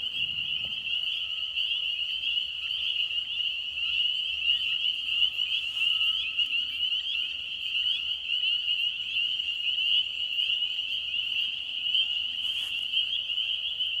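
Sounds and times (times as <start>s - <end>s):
chorus of frogs calling: 0.0s - 14.0s.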